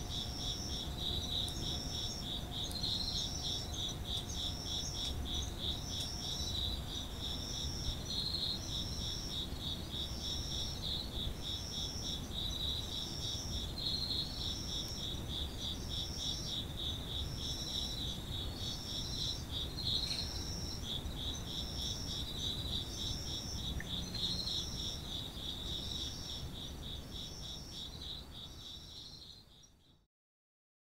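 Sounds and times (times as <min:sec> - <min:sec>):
crickets trilling: 0:00.0 - 0:29.8
high cricket chirps: 0:00.0 - 0:30.0.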